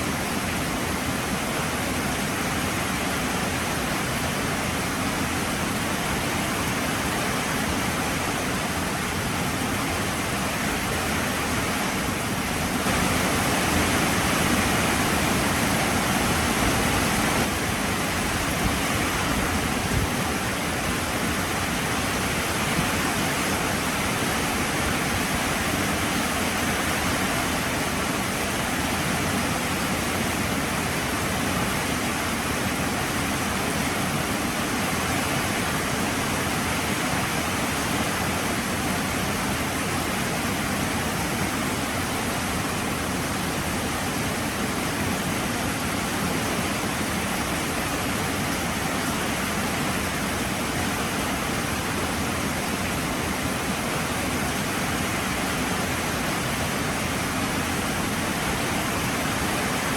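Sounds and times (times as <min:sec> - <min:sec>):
heavy rain falling: 0:04.9 - 0:59.9.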